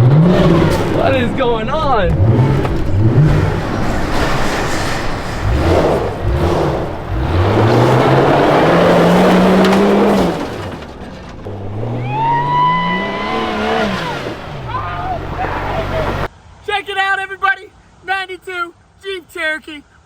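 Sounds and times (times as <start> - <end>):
supercharged engine revving: 0.0 - 16.3.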